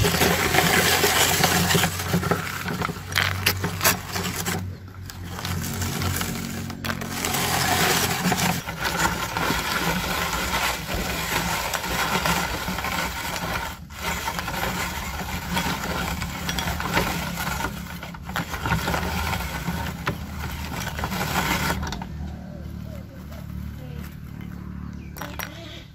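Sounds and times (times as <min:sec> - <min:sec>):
snacks crunching in grinder: 0:00.0 - 0:22.4
grinder crank rumbling: 0:00.0 - 0:25.9.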